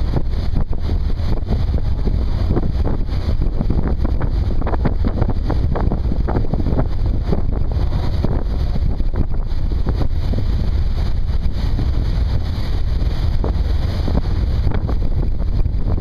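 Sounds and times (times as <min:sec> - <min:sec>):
low rumble of boat: 0:00.0 - 0:16.0
wind buffeting microphone: 0:00.0 - 0:16.0.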